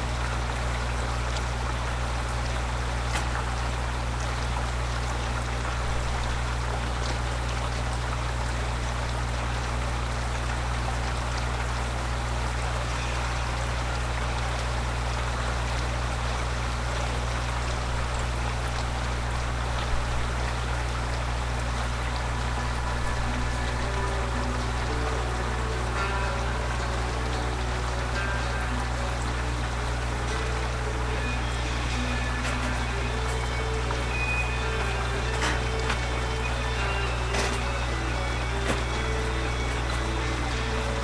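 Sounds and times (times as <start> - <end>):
constant low hum: 0.0 - 41.0
steady rain pouring: 0.0 - 41.0.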